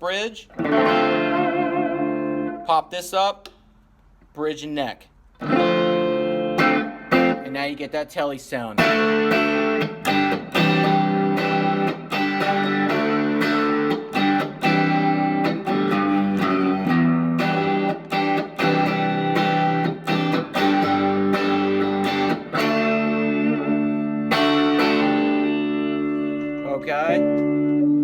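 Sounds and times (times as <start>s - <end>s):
electric guitar strummed chords: 0.6s - 2.7s, 5.4s - 7.8s, 8.8s - 28.0s.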